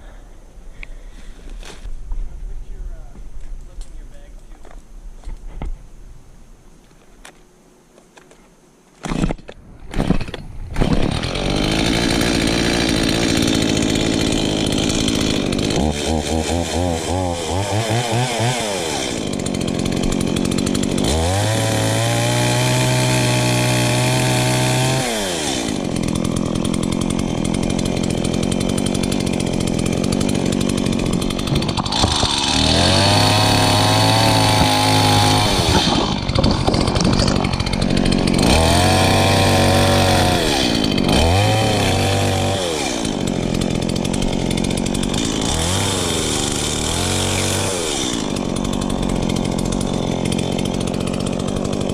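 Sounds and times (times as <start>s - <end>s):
chainsaw revving and idling: 9.9s - 51.9s.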